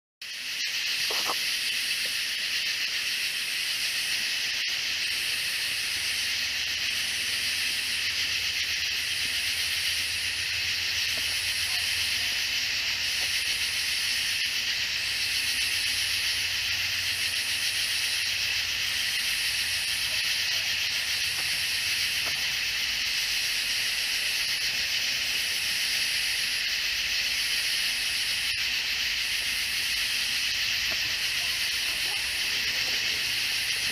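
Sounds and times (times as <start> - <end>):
insects buzzing: 0.2 - 33.9
pulsing insect call: 0.2 - 33.9.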